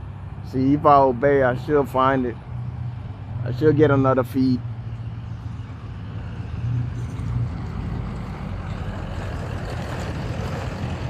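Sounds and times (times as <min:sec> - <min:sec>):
distant engine rumble: 0:00.0 - 0:11.0.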